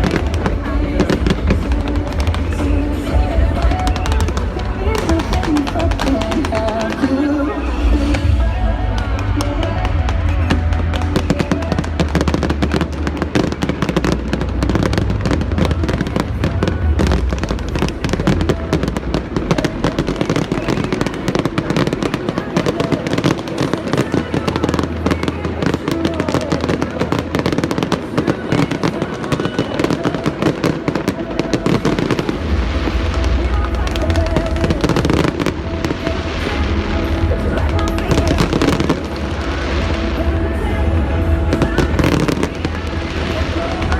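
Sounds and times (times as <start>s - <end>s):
fireworks bangs and crackles: 0.0s - 43.9s
music playing: 0.0s - 43.9s.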